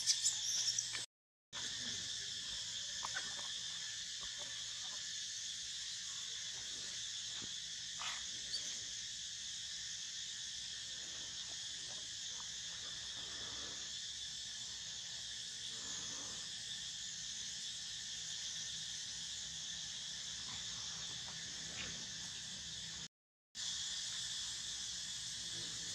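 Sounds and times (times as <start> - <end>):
insect chorus drone: 0.0 - 25.9.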